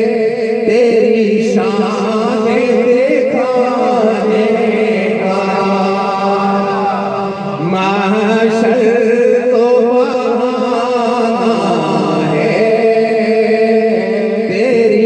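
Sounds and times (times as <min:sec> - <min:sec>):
person singing through loudspeakers: 0:00.0 - 0:15.0
steady drone: 0:00.0 - 0:15.0.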